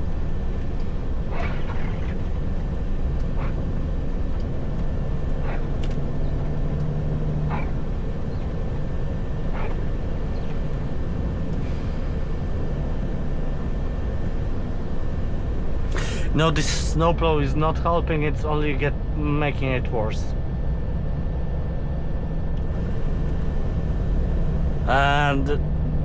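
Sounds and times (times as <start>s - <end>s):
truck engine droning: 0.0s - 26.0s.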